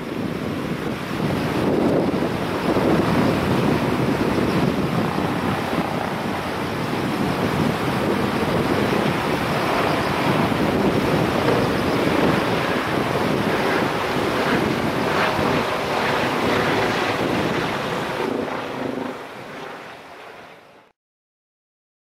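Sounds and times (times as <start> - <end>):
wind buffeting microphone: 0.0 - 20.3
river rushing in flood: 0.6 - 19.6.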